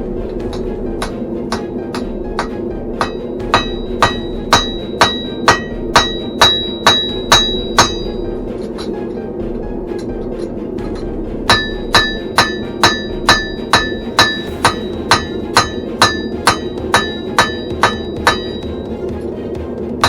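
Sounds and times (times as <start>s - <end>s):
forge roaring: 0.0s - 18.1s
hammer ringing on anvil: 0.5s - 9.0s, 10.8s - 18.9s.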